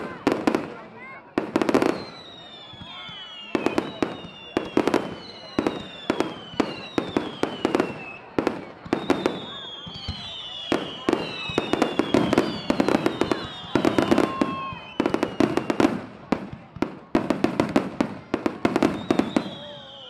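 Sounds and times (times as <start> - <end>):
fireworks bangs and crackling: 0.0 - 20.0
fireworks whistles falling in pitch: 1.6 - 20.0.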